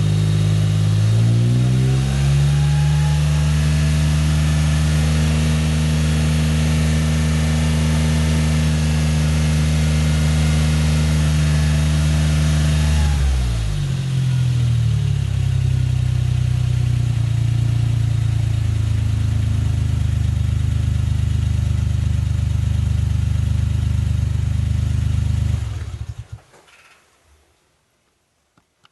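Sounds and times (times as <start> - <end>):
car engine exhaust revving and idling: 0.0 - 26.4.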